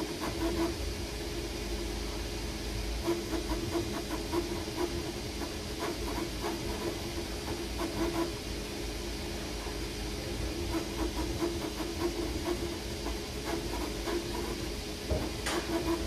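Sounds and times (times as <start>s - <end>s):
constant hum: 0.0s - 16.0s
cooling fans hissing: 0.0s - 16.0s.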